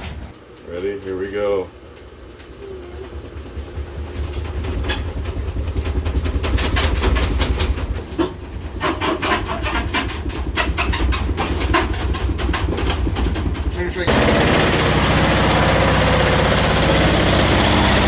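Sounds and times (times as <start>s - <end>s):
banging and rattling machines: 0.0s - 1.3s, 2.8s - 18.0s
washing machine rumbling in spin: 0.0s - 18.0s.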